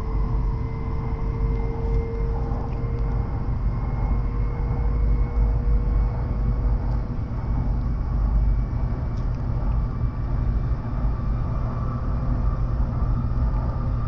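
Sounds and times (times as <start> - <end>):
faint whine: 0.0 - 14.0
train cabin low rumble: 0.0 - 14.0.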